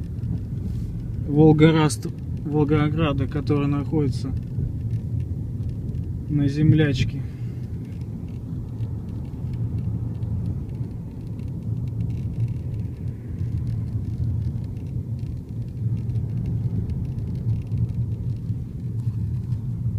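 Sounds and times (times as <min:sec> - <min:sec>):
car engine rumble: 0:00.0 - 0:19.9
road noise: 0:00.0 - 0:19.9.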